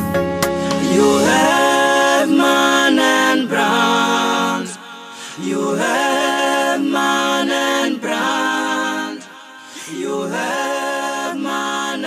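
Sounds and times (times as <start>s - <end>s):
layered vocal harmonies singing: 0.6s - 12.0s.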